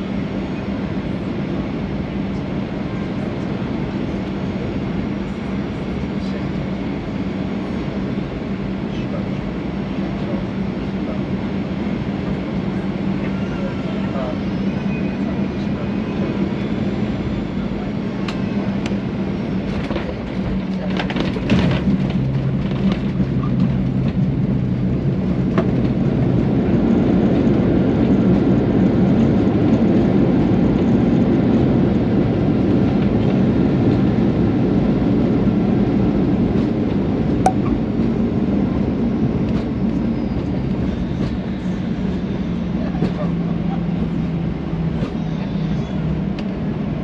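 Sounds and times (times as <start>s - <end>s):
jet engine and airflow rumble: 0.0s - 47.0s.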